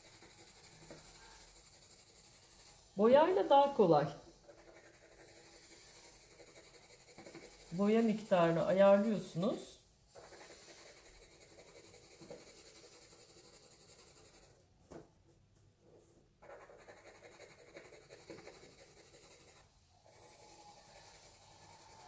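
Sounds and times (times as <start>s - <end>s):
pencil scratching on paper: 0.0s - 14.6s, 15.9s - 22.0s.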